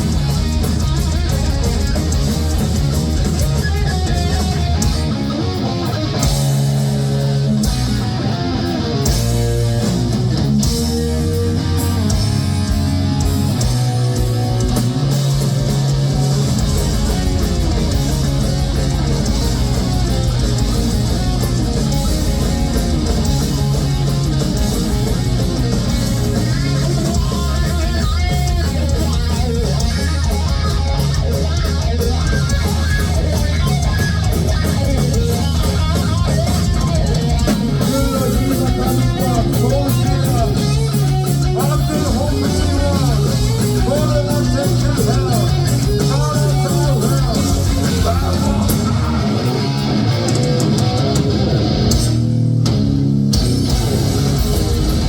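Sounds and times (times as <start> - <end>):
bass guitar: 0.0 - 55.0
distorted electric guitar riffing: 0.0 - 55.0
drums: 0.0 - 55.0.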